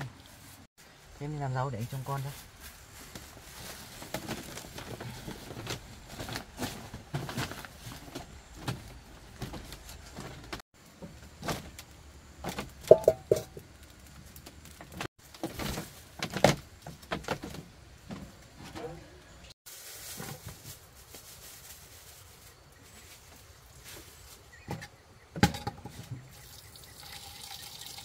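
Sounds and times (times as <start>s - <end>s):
knocks and rustles of handling: 2.2s - 19.0s, 19.7s - 26.4s.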